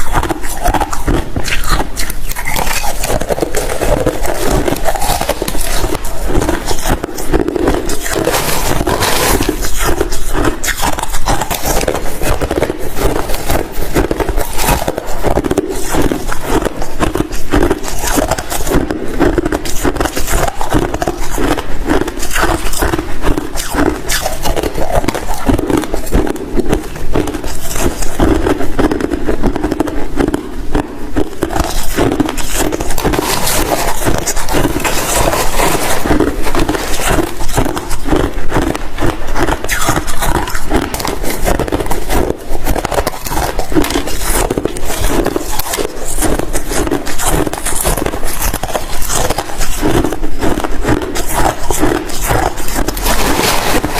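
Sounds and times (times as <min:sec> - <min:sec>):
ice crunching: 0:00.0 - 0:53.9.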